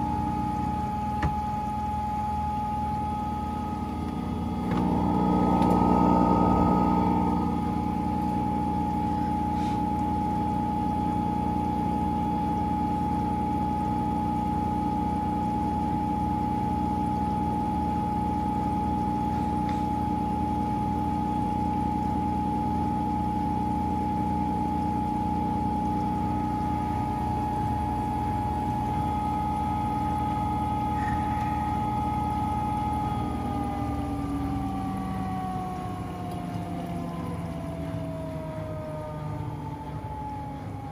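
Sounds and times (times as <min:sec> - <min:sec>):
low hum: 0:00.0 - 0:40.9
washing machine motor whine: 0:00.0 - 0:40.9.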